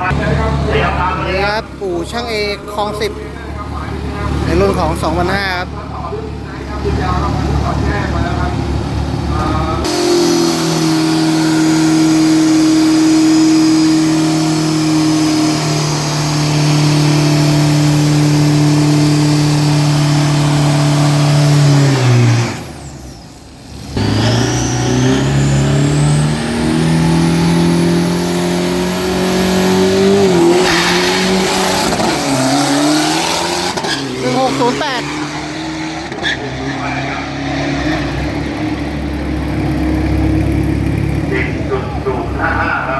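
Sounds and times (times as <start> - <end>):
diesel truck engine at full throttle: 0.0 - 42.9.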